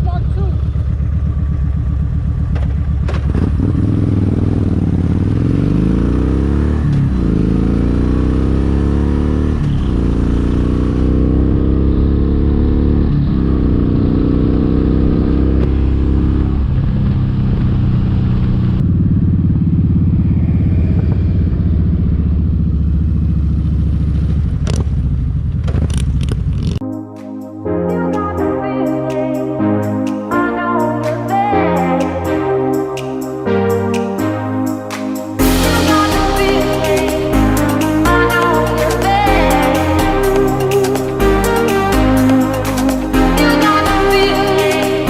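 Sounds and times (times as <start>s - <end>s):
motorcycle engine accelerating: 0.0s - 26.8s, 34.2s - 45.0s.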